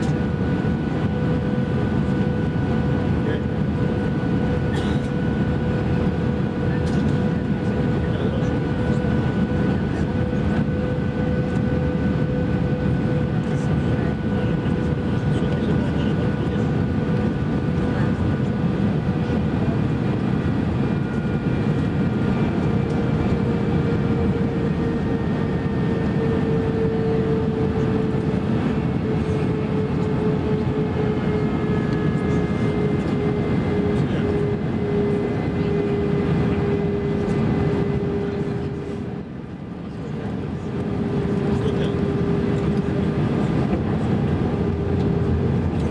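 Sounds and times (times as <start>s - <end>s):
airflow rush in airplane cabin: 0.0s - 45.9s
jet engine hum: 0.0s - 45.9s.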